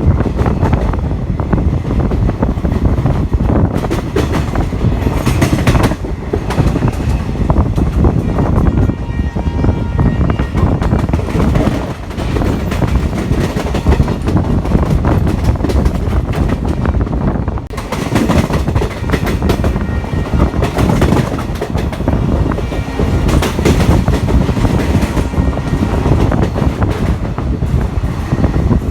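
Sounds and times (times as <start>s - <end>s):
train wheels clacking on rails: 0.0s - 28.9s.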